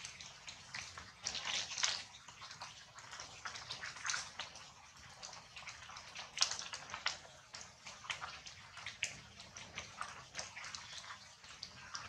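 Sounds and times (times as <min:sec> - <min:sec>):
rain dripping on leaves: 0:00.0 - 0:12.0.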